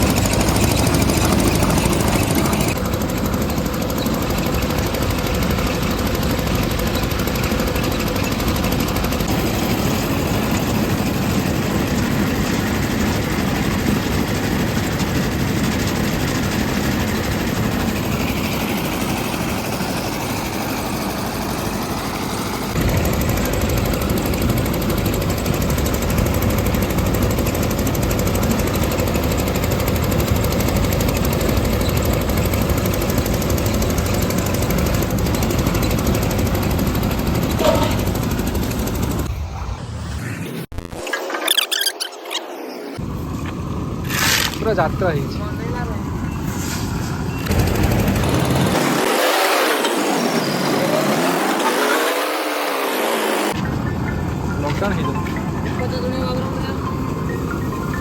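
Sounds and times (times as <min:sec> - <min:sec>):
road-repair machinery rumbling: 0:00.0 - 0:58.0.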